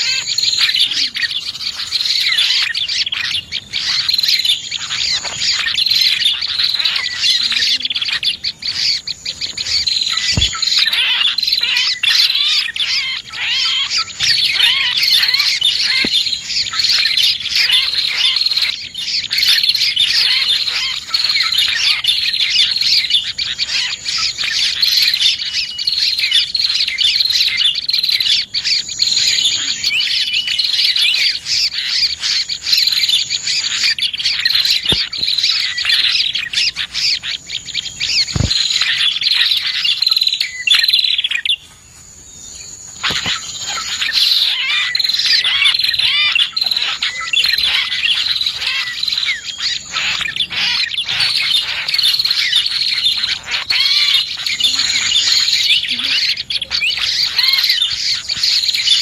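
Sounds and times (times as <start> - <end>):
small birds chirping and twittering: 0.0 - 59.0.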